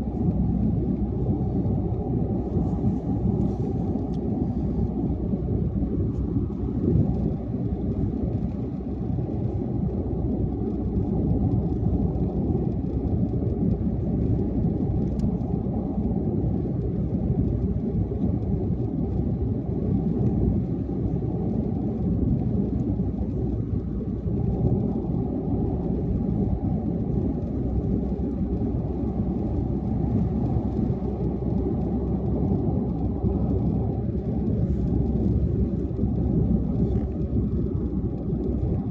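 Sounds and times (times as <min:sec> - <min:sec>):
car tyre and engine rumble: 0:00.0 - 0:38.9.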